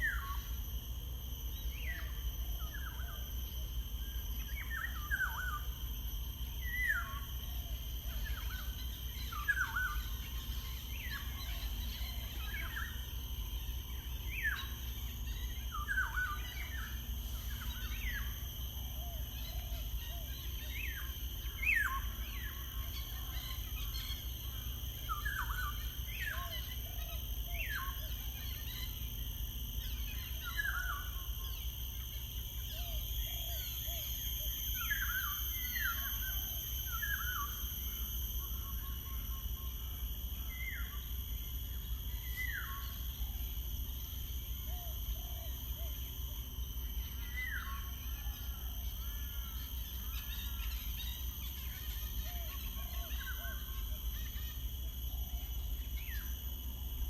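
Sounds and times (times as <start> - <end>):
faint high whine: 0.0 - 57.0.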